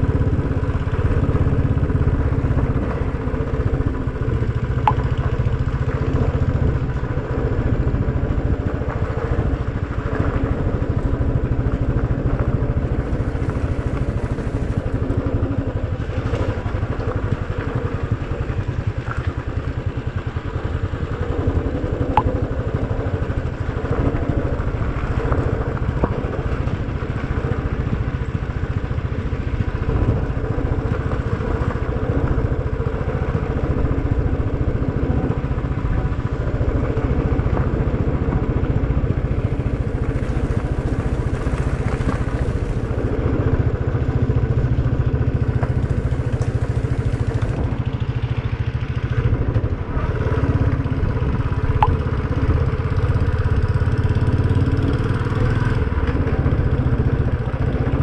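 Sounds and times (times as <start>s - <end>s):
gravel clatter: 0.0s - 58.0s
motorcycle engine running: 0.0s - 58.0s.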